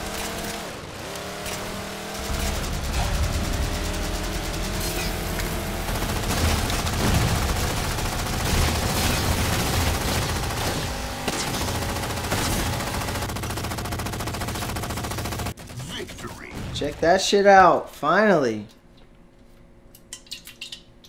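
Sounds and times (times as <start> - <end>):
rapid automatic gunfire: 0.0 - 17.0.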